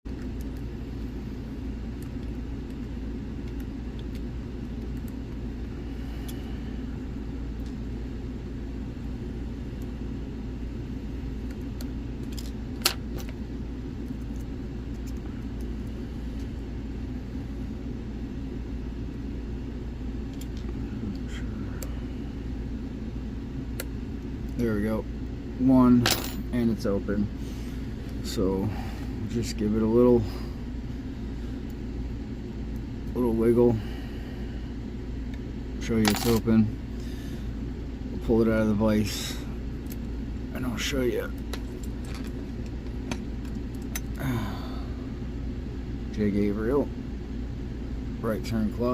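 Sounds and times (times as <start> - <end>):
low background hum: 0.0 - 48.9.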